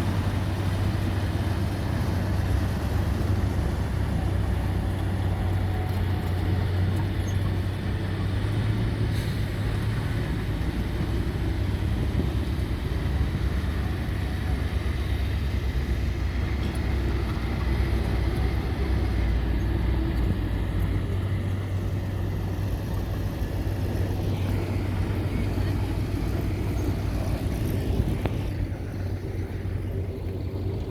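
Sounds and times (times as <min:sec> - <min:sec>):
truck diesel engine droning: 0:00.0 - 0:30.9.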